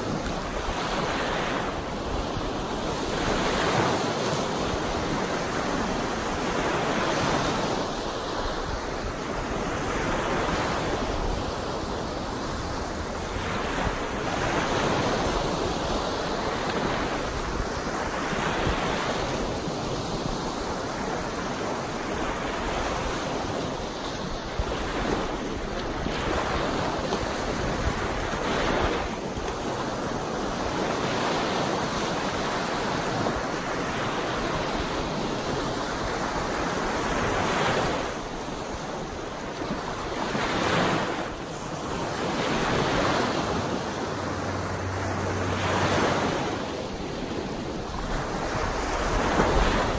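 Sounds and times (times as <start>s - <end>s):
small waves breaking on shore: 0.0s - 49.9s
wind rumble on microphone: 0.0s - 49.9s.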